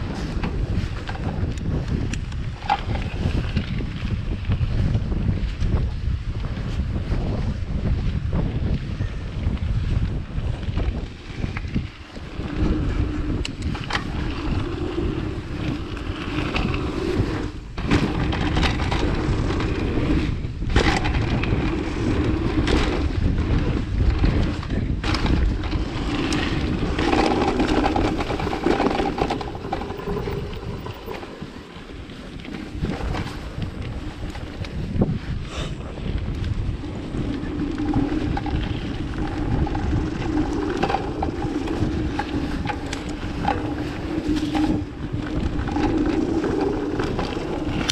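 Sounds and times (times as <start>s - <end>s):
bike rattling: 0.0s - 47.9s
tyres rolling on dirt: 0.0s - 47.9s
wind noise on microphone: 0.0s - 47.9s.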